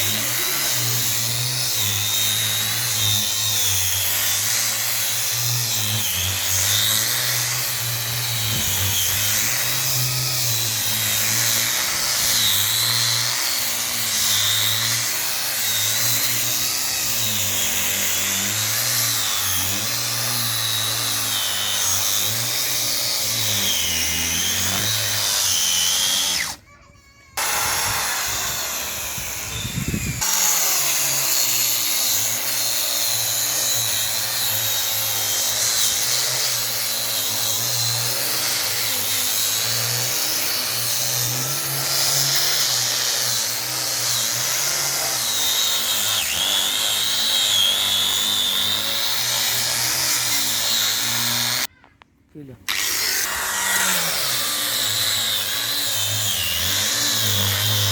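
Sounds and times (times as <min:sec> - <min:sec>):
wood polishing machine running: 0:00.0 - 0:26.6, 0:27.4 - 0:51.7, 0:52.7 - 0:57.9.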